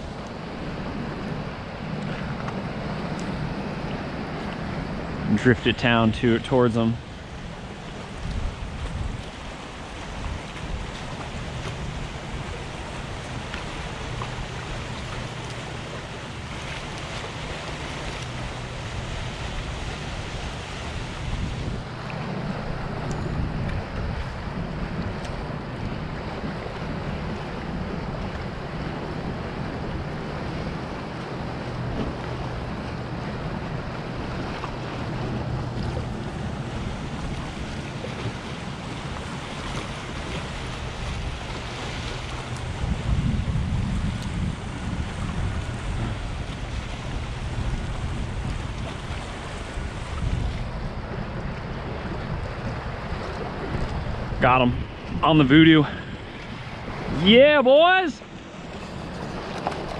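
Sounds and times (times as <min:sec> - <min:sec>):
water lapping against rocks: 0:00.0 - 0:59.9
wind buffeting microphone: 0:00.0 - 0:59.9.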